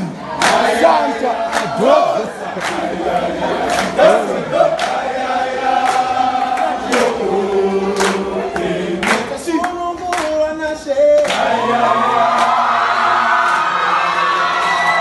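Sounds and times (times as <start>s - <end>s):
choir singing: 0.0s - 9.6s, 11.2s - 15.0s.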